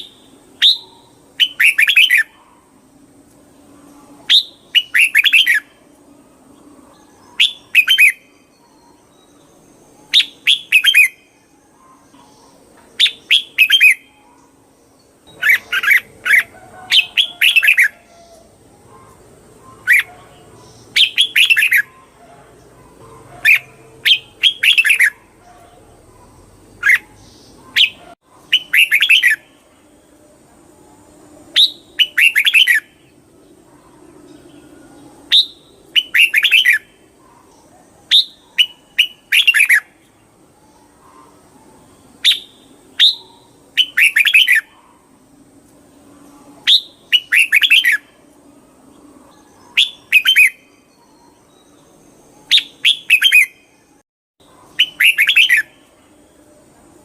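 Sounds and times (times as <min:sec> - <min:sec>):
bulbul singing: 0:00.0 - 0:30.2, 0:30.8 - 0:45.2, 0:46.0 - 0:57.0
faint steady hum: 0:00.0 - 0:57.0.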